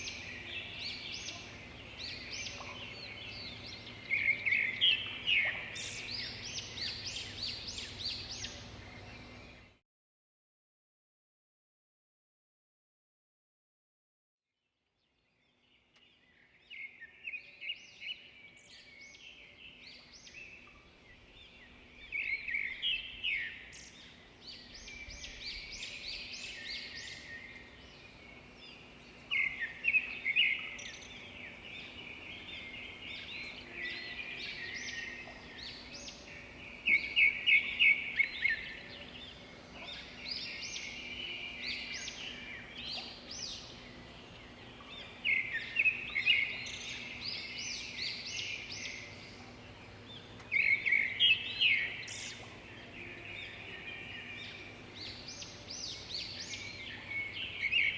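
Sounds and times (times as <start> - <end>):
faint steady hum: 0.0 - 9.8, 15.7 - 57.9
small birds chirping: 0.0 - 9.8, 15.2 - 57.9.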